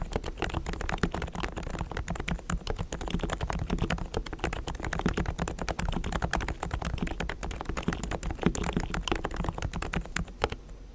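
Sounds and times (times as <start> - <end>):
fast keyboard typing: 0.0 - 10.7.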